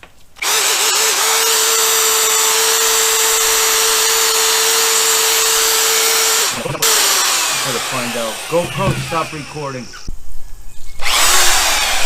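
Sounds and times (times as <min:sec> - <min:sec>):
electric drill sanding whine: 0:00.4 - 0:10.1, 0:11.0 - 0:12.0.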